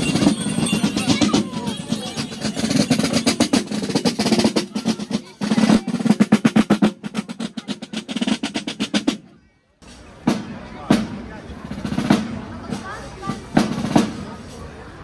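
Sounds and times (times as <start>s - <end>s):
snare drum marching rhythm: 0.0s - 9.3s, 10.2s - 14.5s.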